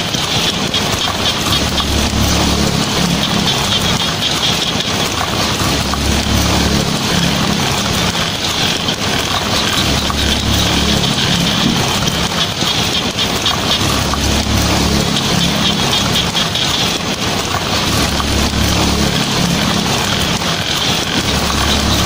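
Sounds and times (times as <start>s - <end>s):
heavy rain on a tin roof: 0.0s - 22.0s.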